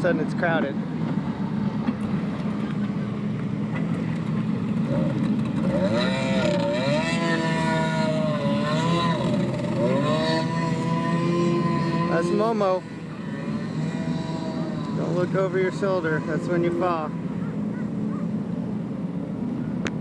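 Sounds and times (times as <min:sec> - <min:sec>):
jet ski engine revving: 0:00.8 - 0:19.9.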